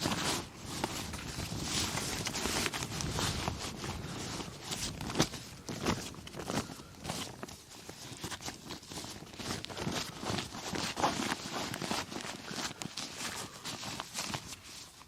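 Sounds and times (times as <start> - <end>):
camping gear rustling and knocking: 0.0 - 15.0.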